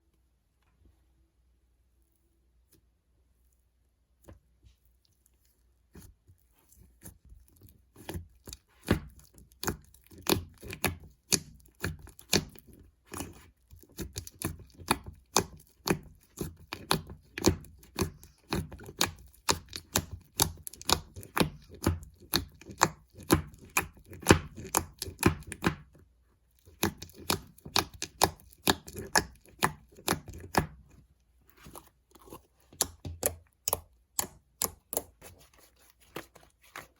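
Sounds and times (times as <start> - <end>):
slime kneaded with sticky pops: 4.0 - 36.9.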